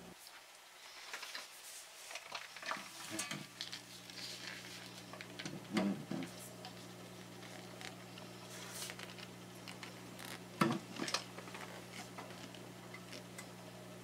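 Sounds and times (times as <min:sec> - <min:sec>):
strap rustling: 0:00.3 - 0:13.4
steady low hum: 0:02.7 - 0:14.0.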